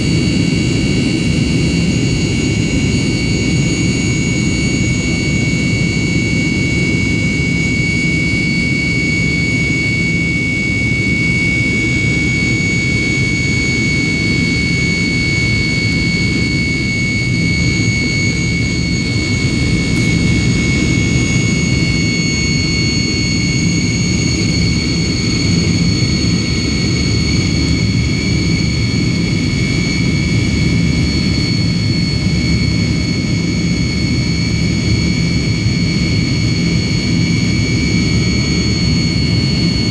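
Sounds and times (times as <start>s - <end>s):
high engine whine: 0.0s - 39.9s
jet engine roar: 0.0s - 39.9s.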